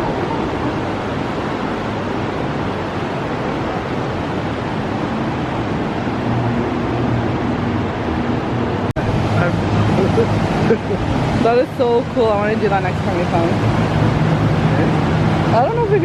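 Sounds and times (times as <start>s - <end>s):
fast river water rushing: 0.0s - 16.0s
low engine hum: 0.0s - 16.0s.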